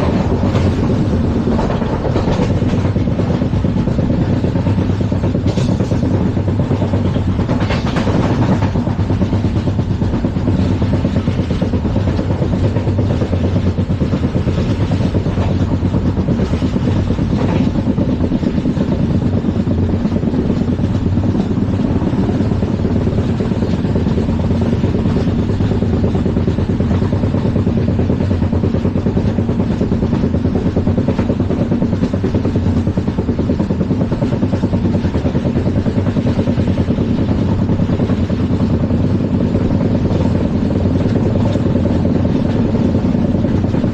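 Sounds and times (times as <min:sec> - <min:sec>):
train wheels rumbling on track: 0:00.0 - 0:43.9.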